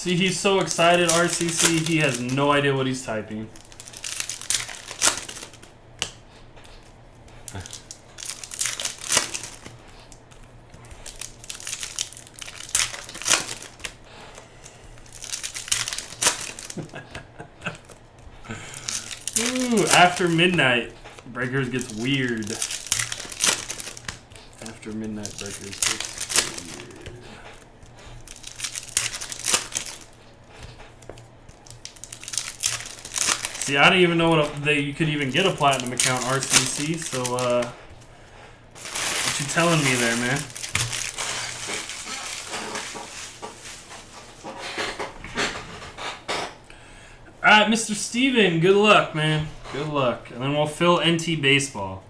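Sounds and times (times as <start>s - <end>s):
wrappers crinkling: 0.0s - 44.4s.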